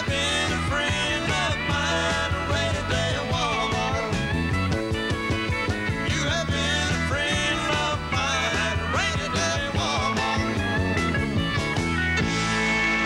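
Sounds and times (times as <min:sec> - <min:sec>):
country band playing live: 0:00.0 - 0:13.0.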